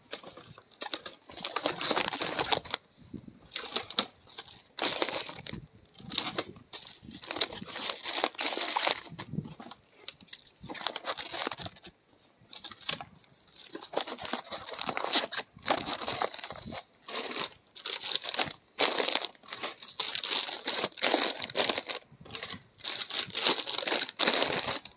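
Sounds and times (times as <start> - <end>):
packaging crinkling: 0.0 - 2.9, 3.5 - 11.9, 12.6 - 24.9.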